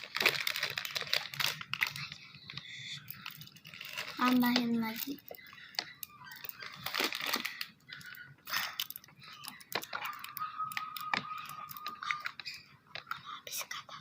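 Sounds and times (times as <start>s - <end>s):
plastic bottles crackling: 0.0s - 13.8s
thin steady squeak: 1.9s - 13.9s.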